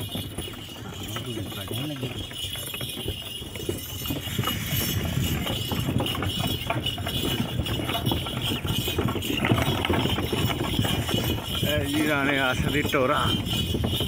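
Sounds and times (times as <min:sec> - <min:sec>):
wooden cart rattling: 0:00.0 - 0:14.0.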